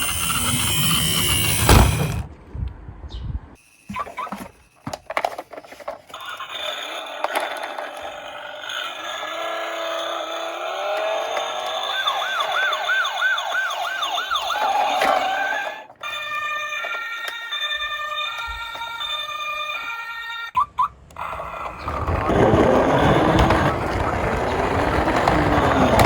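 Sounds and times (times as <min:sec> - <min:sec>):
toy police car sirens: 0:00.0 - 0:02.1, 0:03.9 - 0:26.0.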